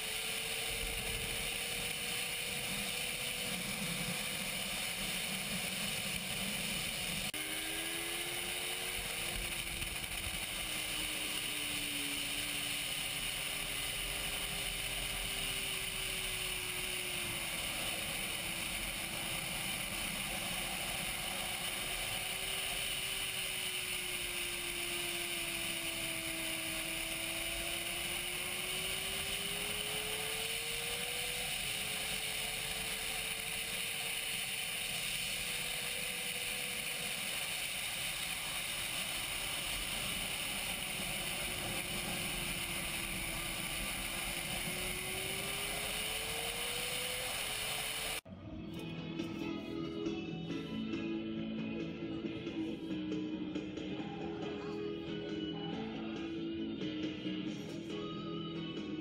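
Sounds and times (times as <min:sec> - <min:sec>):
motorcycle engine at speed: 0:00.0 - 0:48.3.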